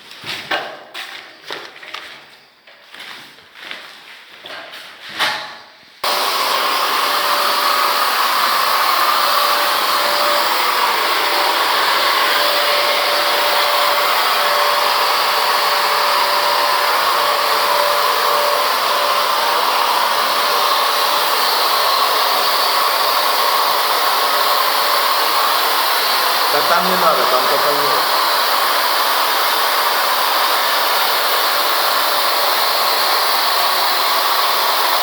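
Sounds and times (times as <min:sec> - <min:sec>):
electric blower motor rushing air: 0:06.0 - 0:35.0.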